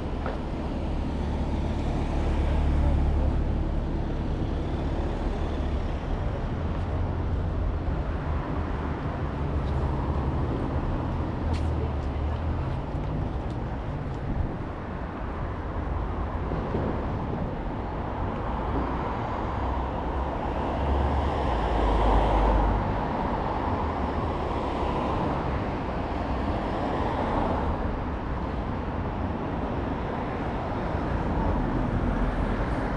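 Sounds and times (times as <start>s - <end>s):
road traffic rumble: 0.0s - 32.9s.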